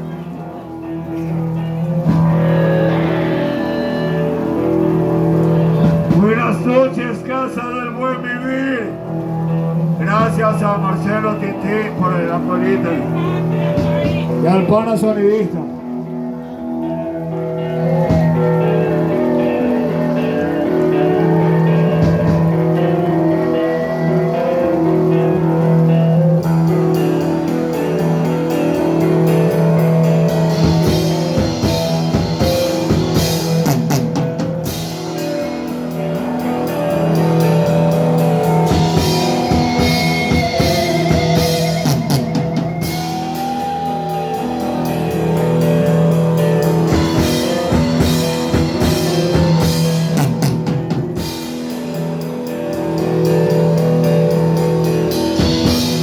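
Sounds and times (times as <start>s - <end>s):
metal band playing live: 0.0s - 56.0s
wavering lead guitar note: 0.0s - 56.0s.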